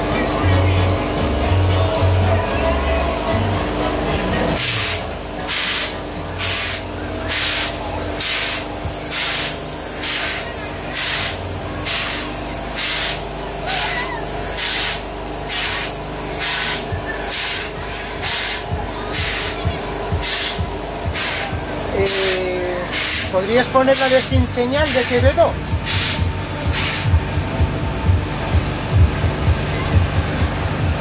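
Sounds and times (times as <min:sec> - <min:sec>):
fairground ride hissing whoosh: 0:00.0 - 0:31.0.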